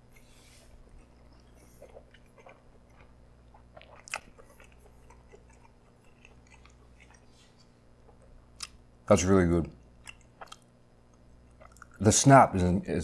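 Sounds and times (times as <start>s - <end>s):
soft chewing clicks: 0.9s - 8.8s, 9.5s - 12.1s.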